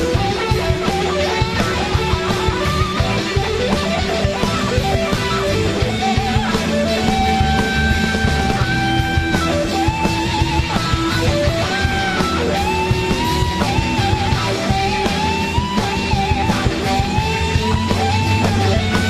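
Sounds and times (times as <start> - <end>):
blues-rock band playing: 0.0 - 19.0
electric guitar lead with bends: 0.0 - 19.0.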